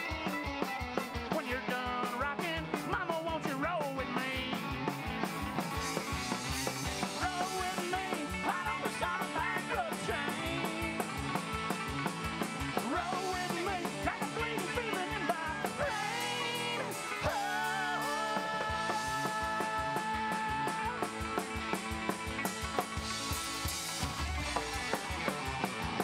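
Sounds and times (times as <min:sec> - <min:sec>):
live rock and roll band: 0:00.0 - 0:26.0.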